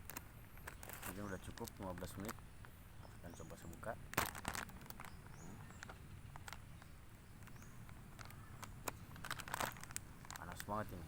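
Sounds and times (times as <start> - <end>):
packaging crinkling and tearing: 0.0 - 2.4, 3.7 - 11.0.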